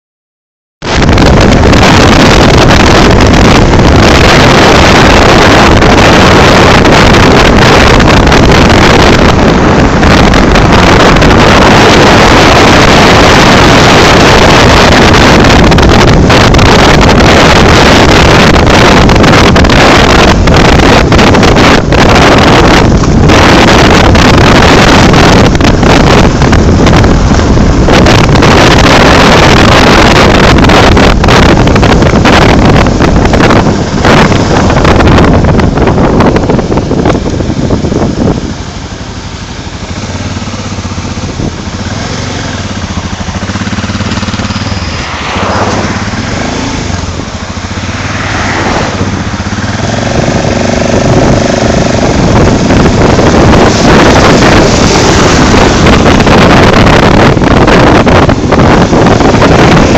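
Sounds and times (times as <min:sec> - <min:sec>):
vehicle noise: 0:00.8 - 0:59.9
wind buffeting microphone: 0:00.8 - 0:59.9.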